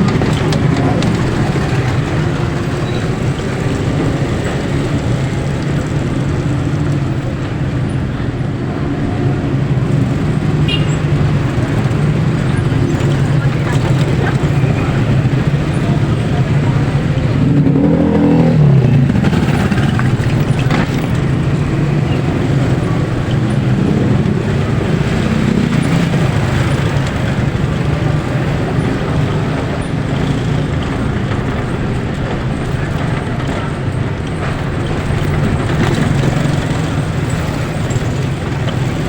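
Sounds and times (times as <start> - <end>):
road noise: 0.0 - 39.0
vehicle engine: 0.0 - 39.0.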